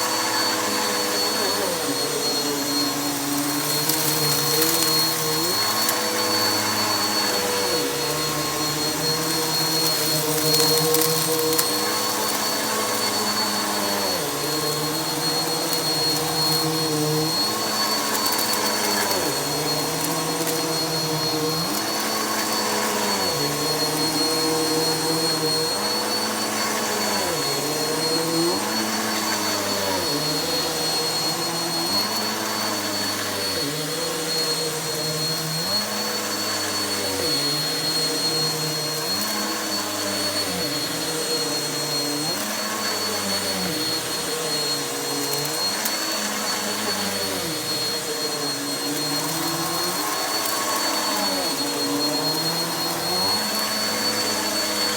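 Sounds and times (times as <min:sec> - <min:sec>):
vacuum cleaner on carpet: 0:00.0 - 0:54.9.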